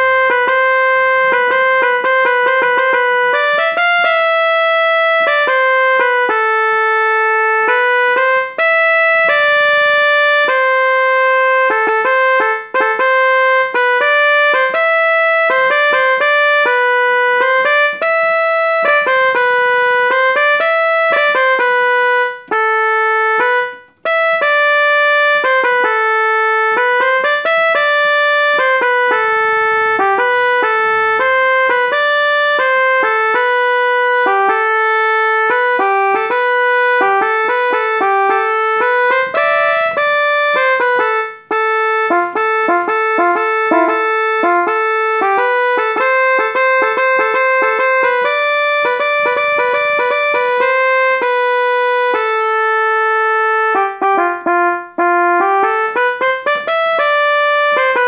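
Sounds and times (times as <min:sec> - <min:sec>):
electronic keyboard piano melody: 0:00.0 - 0:58.0.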